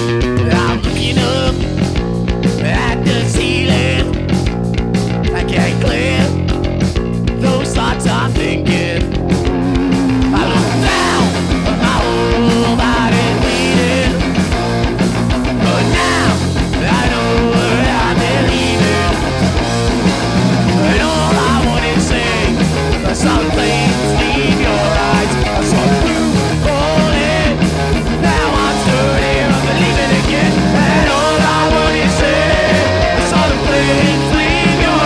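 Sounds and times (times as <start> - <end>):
rock band playing live: 0.0 - 35.0.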